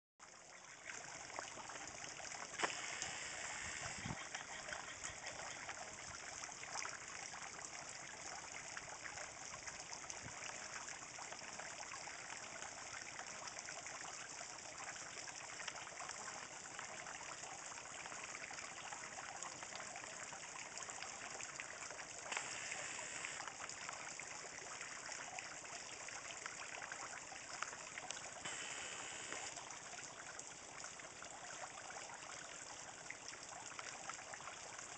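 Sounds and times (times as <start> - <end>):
water trickling in pond: 0.2 - 34.9.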